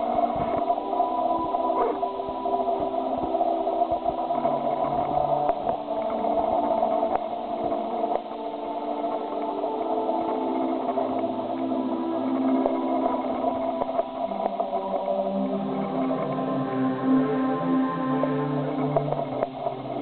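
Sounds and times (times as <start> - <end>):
muffled tinny music: 0.0 - 20.0.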